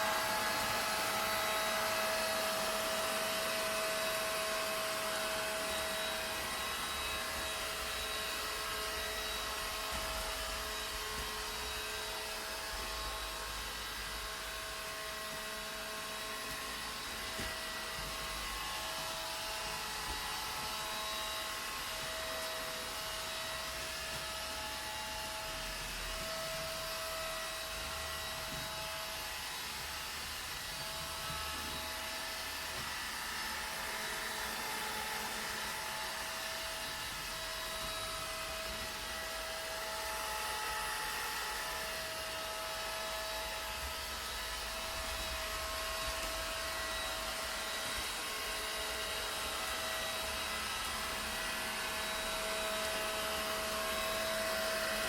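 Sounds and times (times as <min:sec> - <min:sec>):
vacuum cleaner motor running: 0:00.0 - 0:55.0.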